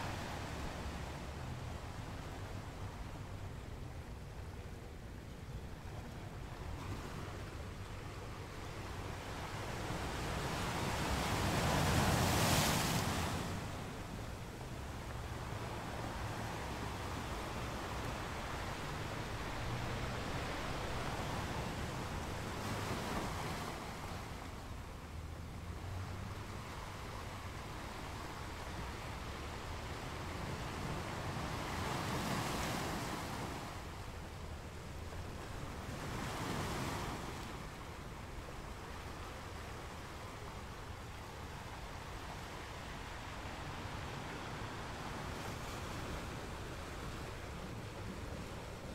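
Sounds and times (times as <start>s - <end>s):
surf washing up beach: 6.0s - 48.9s.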